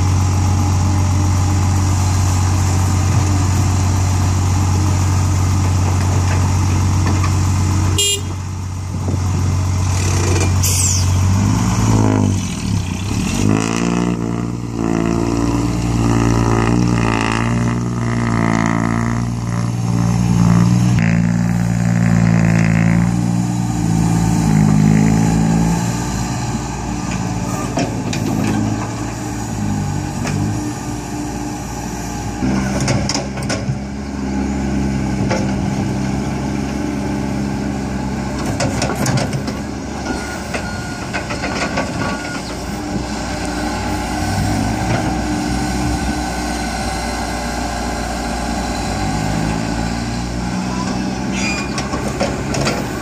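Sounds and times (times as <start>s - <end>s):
excavator diesel engine labouring: 0.0s - 53.0s.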